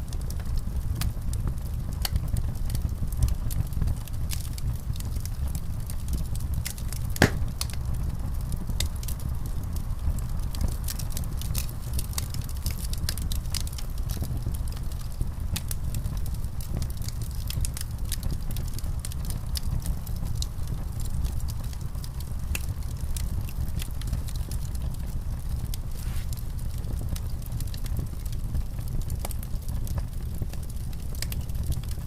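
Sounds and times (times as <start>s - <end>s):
fire crackles and pops: 0.0s - 32.0s
fireplace fire rumbling: 0.0s - 32.0s.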